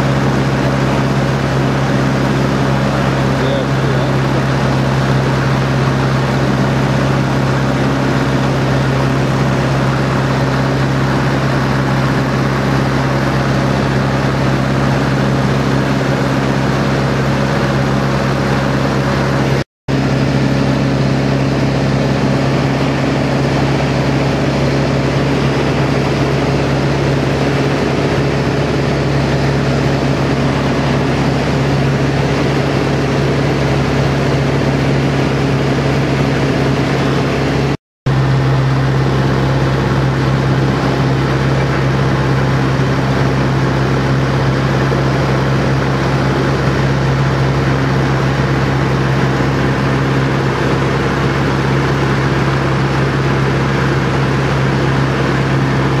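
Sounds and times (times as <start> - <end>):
propeller aircraft engine drone: 0.0 - 56.0.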